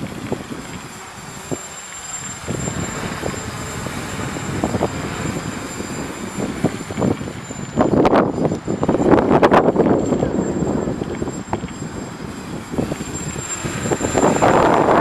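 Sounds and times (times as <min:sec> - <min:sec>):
drone propellers whining: 0:00.0 - 0:15.0
wind buffeting microphone: 0:00.0 - 0:15.0.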